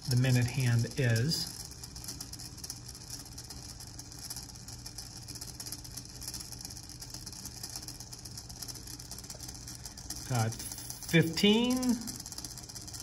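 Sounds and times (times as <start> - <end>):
plastic gears rattling: 0.0 - 13.0.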